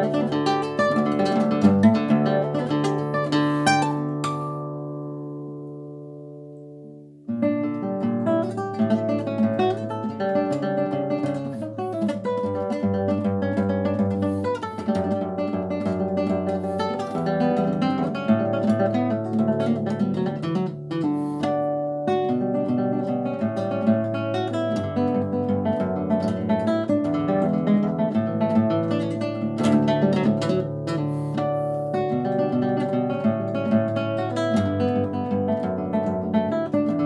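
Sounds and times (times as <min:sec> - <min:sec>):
classical guitar playing: 0:00.0 - 0:37.0.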